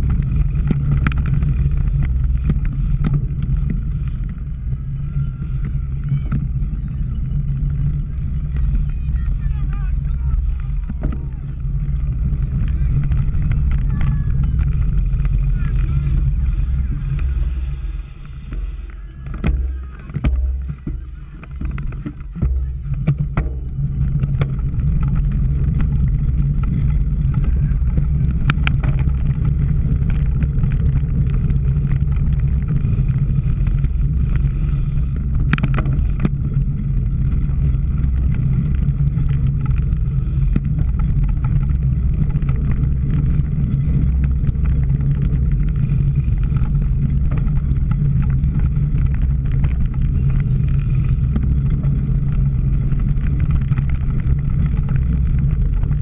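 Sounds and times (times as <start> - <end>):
wind and tyre noise: 0.0 - 56.0.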